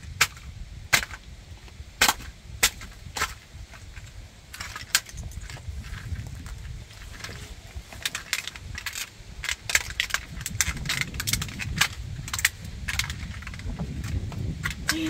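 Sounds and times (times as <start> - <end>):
toy truck cracking under feet: 2.0 - 15.0.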